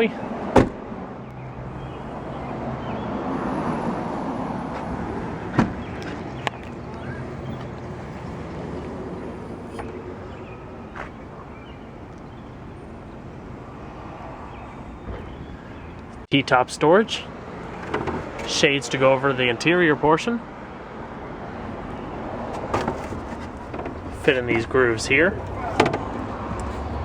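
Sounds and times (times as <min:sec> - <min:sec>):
traffic hum: 0:00.0 - 0:27.0.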